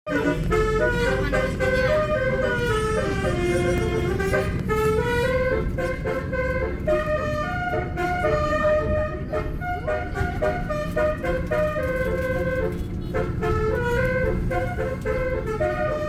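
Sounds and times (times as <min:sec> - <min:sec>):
multi-tone air horn tune: 0:00.1 - 0:16.0.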